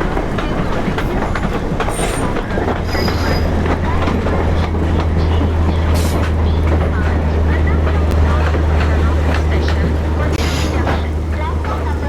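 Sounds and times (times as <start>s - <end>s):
train wheels clicking over rail joints: 0.0s - 12.0s
wheel and brake squeals: 0.0s - 12.0s.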